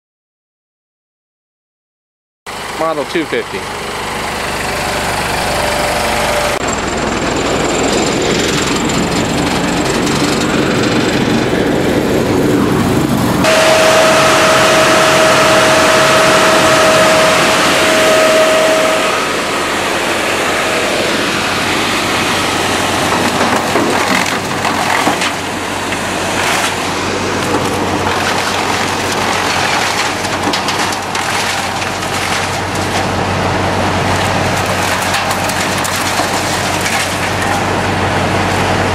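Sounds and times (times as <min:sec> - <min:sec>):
wood chipper running: 0:02.5 - 0:38.9
wood chipper whine: 0:02.5 - 0:38.9.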